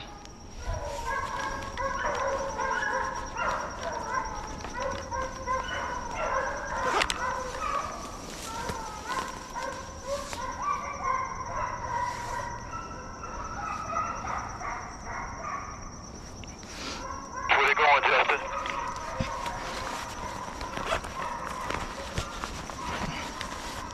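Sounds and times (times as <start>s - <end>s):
hounds baying: 0.0s - 23.9s.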